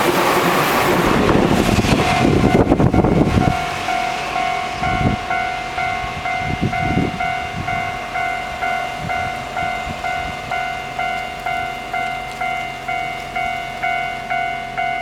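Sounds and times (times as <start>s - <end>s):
train rumbling: 0.0s - 15.0s
level crossing bell ringing: 2.0s - 15.0s.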